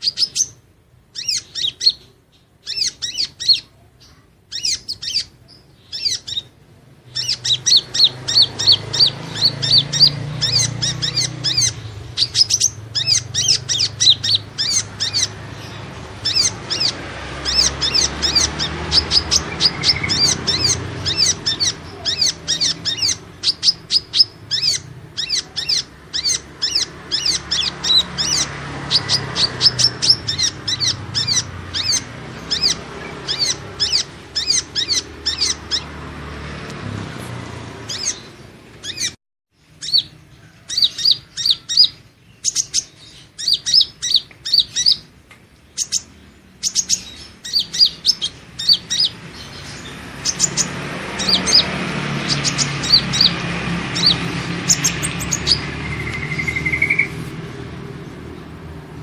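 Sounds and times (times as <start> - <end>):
bird chirps and twitters: 0.0 - 36.2, 37.6 - 59.0.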